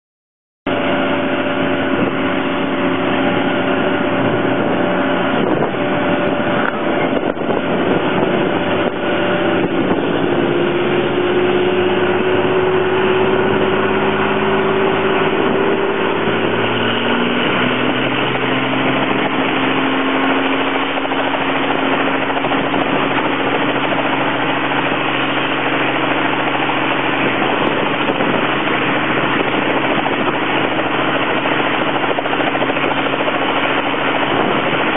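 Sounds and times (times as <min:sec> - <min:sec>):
helicopter engine and rotor: 0:00.7 - 0:34.9
rising whine: 0:00.7 - 0:34.9.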